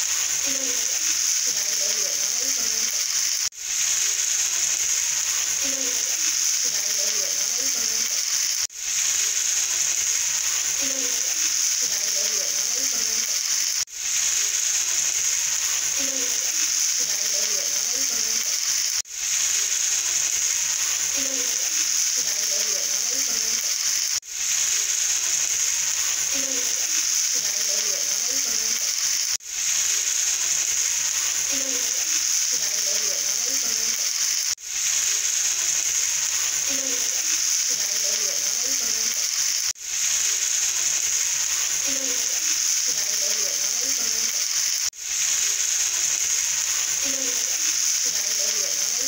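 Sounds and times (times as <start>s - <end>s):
frying sizzle with crackle: 0.0s - 49.0s.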